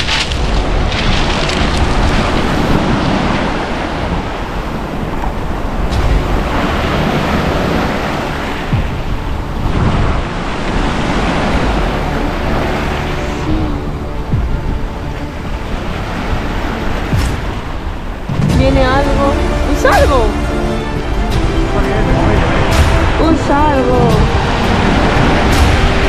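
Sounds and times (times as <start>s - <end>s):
sea waves breaking: 0.0s - 26.0s
wind buffeting microphone: 0.0s - 26.0s.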